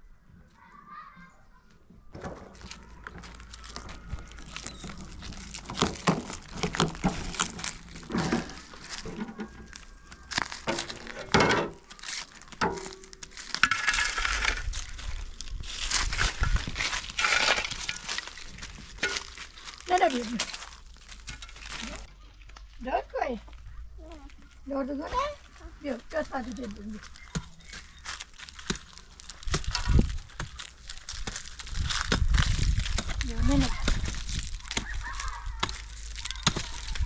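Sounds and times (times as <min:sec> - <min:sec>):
dry material crunching and crackling: 0:02.1 - 0:37.0.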